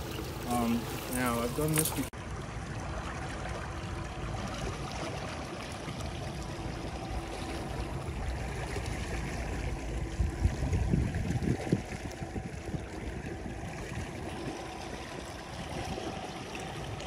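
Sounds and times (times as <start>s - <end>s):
outboard motor humming: 0.0s - 17.0s
water washing along boat: 0.0s - 17.0s.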